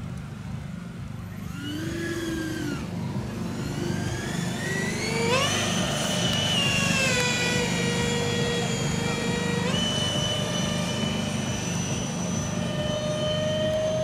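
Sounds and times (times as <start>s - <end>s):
electric ducted fans whining: 0.0s - 14.0s
low hum: 0.0s - 14.0s.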